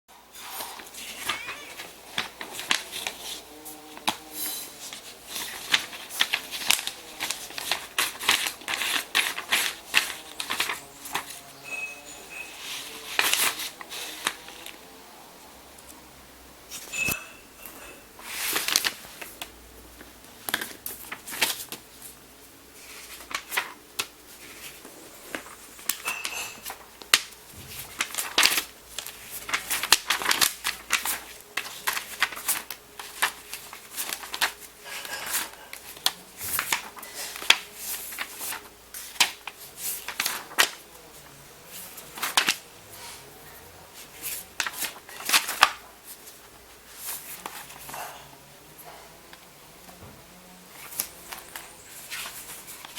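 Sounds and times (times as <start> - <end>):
paper rustling: 0.4 - 15.0, 16.7 - 52.9.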